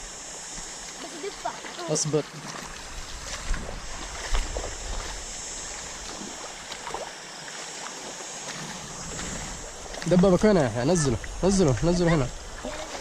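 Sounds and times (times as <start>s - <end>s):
low water rumble: 0.0s - 7.4s, 8.0s - 13.0s
floodwater rushing: 0.0s - 13.0s.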